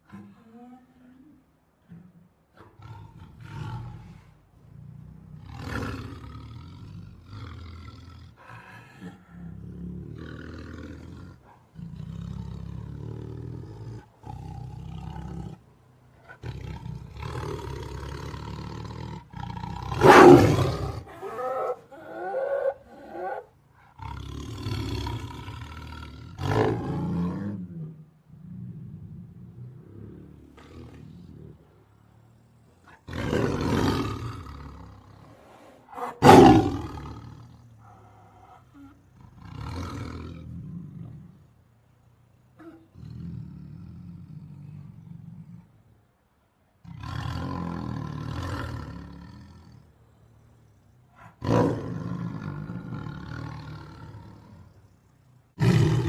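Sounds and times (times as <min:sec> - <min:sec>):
tiger roaring: 0:02.6 - 0:56.0.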